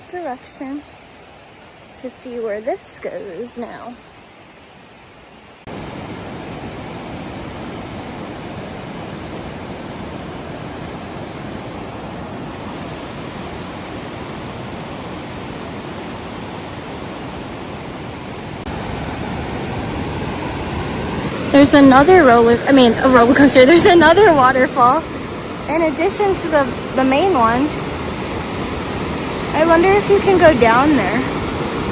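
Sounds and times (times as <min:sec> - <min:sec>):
waterfall rushing: 0:05.6 - 0:31.9.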